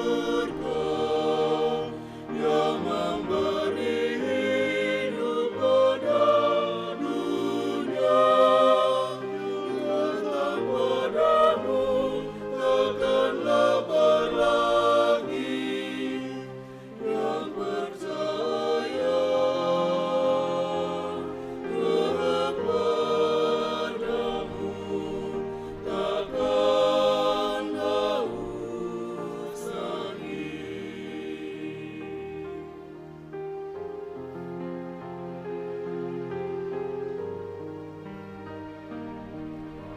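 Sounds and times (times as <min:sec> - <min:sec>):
mixed choir singing a hymn: 0:00.0 - 0:33.1.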